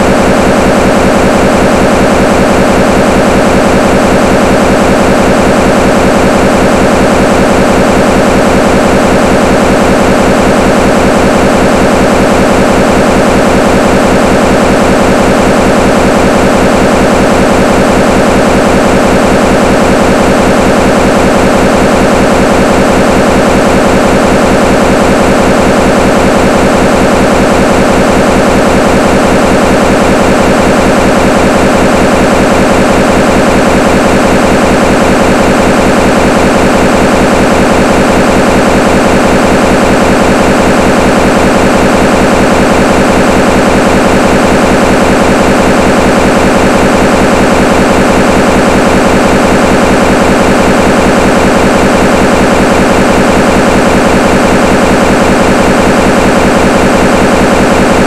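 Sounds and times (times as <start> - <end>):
loud static noise with buzz: 0.0 - 55.0.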